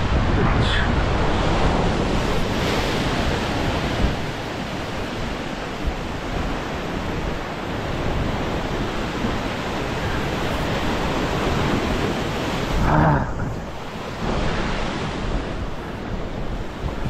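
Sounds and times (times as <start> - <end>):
ocean surf over rocks: 0.0 - 17.0
wind rumbling on microphone: 0.0 - 17.0.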